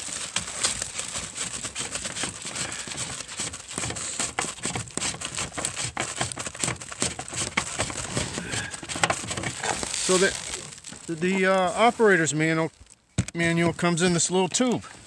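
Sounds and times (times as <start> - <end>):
plastic wrapping crinkling: 0.0 - 14.8.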